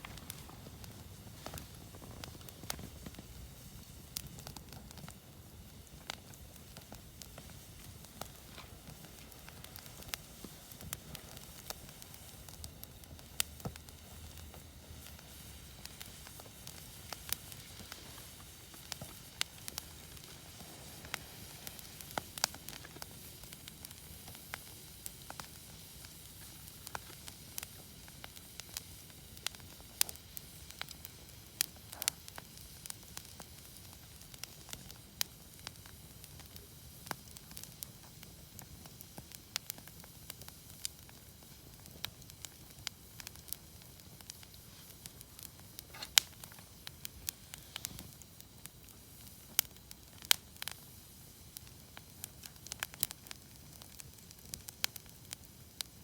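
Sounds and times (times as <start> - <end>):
wood bonfire crackling: 0.0 - 56.0.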